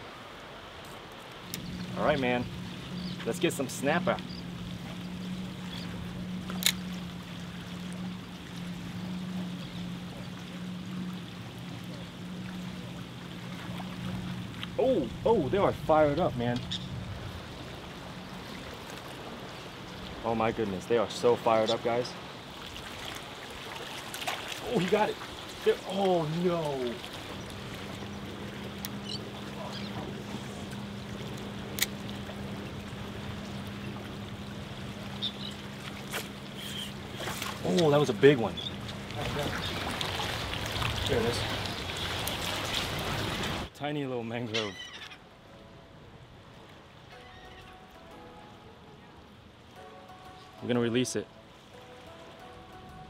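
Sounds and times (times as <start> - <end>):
constant low hum: 0.0 - 43.8
water lapping around pilings: 0.0 - 53.0.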